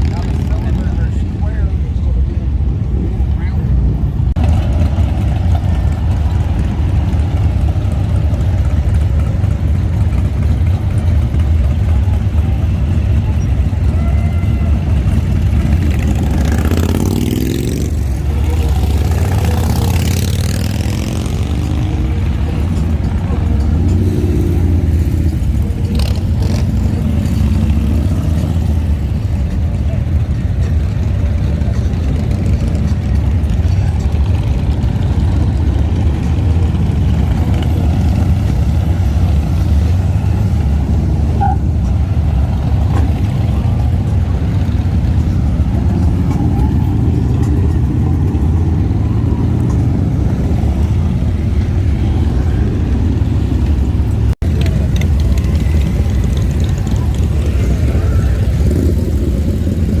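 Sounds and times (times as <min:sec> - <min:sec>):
motorcycle engines idling and revving: 0:00.0 - 1:00.0.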